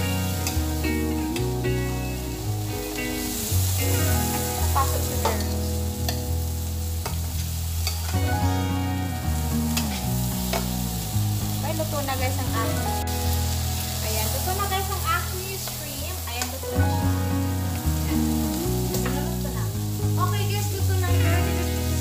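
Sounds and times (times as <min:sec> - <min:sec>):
shrimp sizzling in frying pan: 0:00.0 - 0:22.0.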